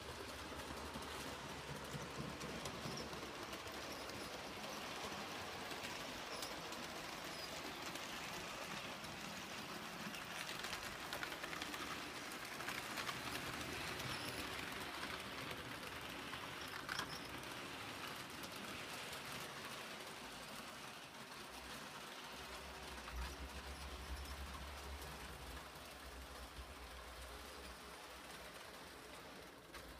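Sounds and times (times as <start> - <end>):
model train whirring: 0.0 - 29.9
wheels clicking on rails: 0.0 - 29.9.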